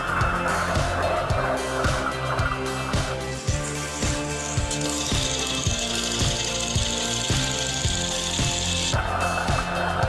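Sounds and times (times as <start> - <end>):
march music: 0.0 - 10.0.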